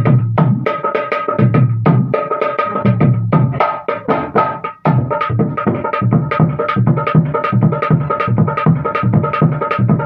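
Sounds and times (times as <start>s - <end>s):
hand drum played fast: 0.0s - 10.0s.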